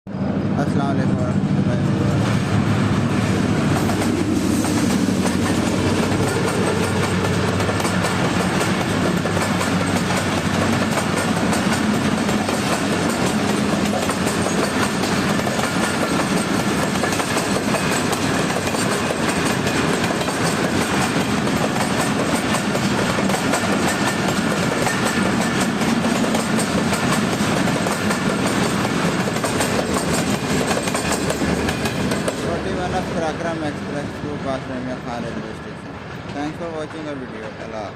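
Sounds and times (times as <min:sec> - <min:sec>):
train wheels rumbling on rails: 0:00.1 - 0:37.9
clickety-clack over rail joints: 0:03.2 - 0:34.2, 0:36.2 - 0:37.8.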